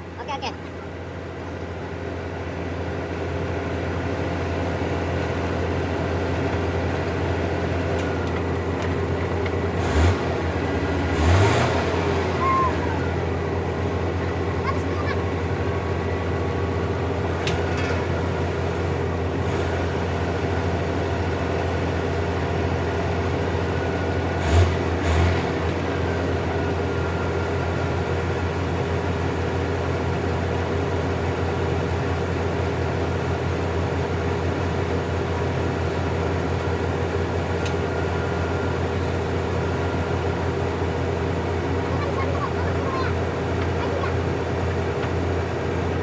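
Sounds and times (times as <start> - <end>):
heavy diesel machinery humming: 0.0 - 46.0.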